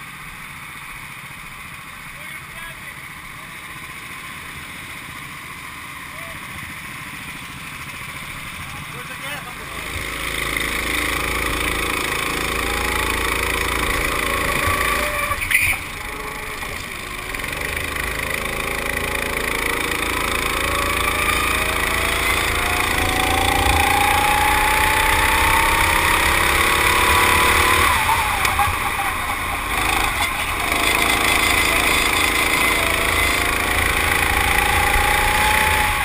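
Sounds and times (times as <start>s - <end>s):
go-kart engine accelerating: 0.0s - 36.0s.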